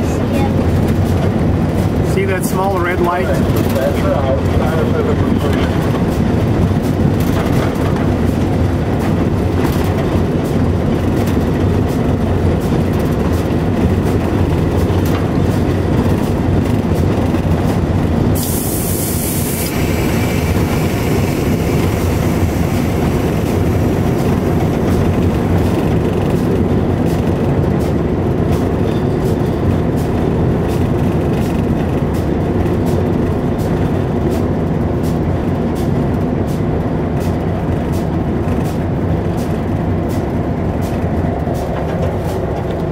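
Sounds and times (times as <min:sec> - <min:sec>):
locomotive rumbling on rails: 0:00.0 - 0:42.9.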